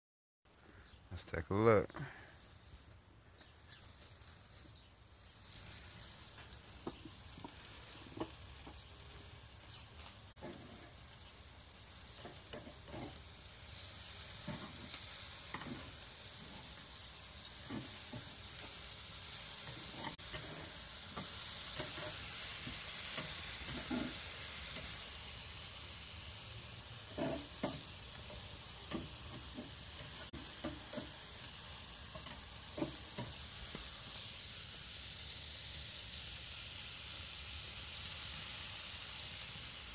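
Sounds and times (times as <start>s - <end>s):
chicken sizzling on a grill: 1.2s - 39.9s.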